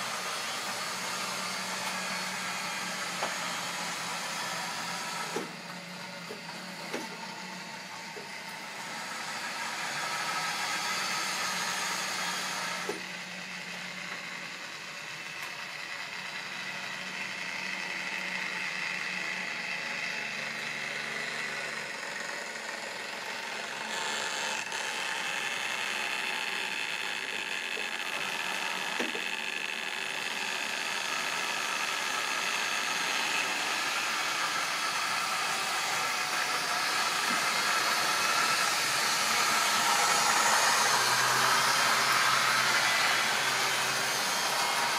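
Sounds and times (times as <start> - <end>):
model train motors whirring: 0.0 - 44.9
wheels running on track: 0.0 - 44.9.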